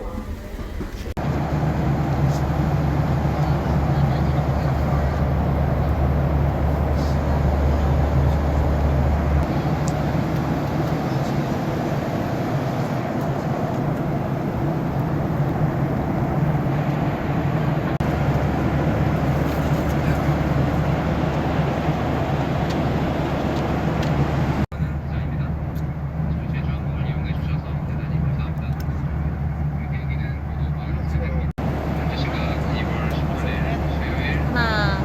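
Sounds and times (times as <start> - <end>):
vehicle engine rumble and hiss: 0.0 - 35.0.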